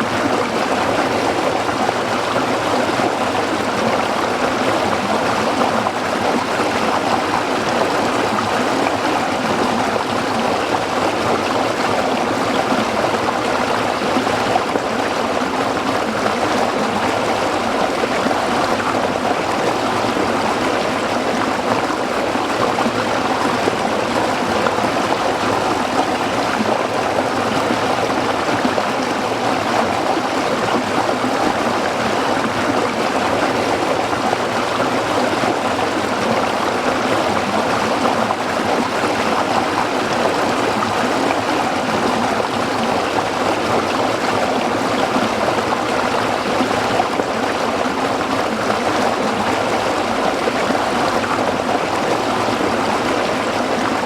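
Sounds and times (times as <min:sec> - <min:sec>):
stream water rushing over rocks: 0:00.0 - 0:54.0.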